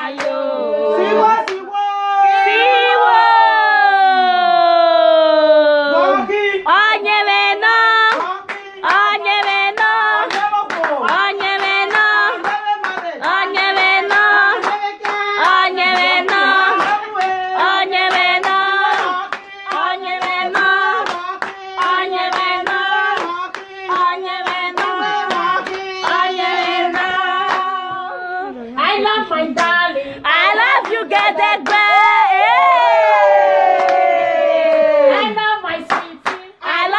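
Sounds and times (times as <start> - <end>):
group singing: 0.0 - 1.7, 6.0 - 36.9
rhythmic hand clapping: 0.0 - 1.8, 6.7 - 36.9.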